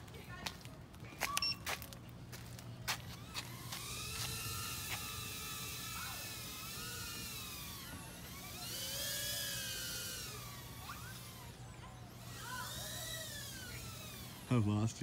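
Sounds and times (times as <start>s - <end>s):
quadcopter motors whining: 3.0s - 15.0s.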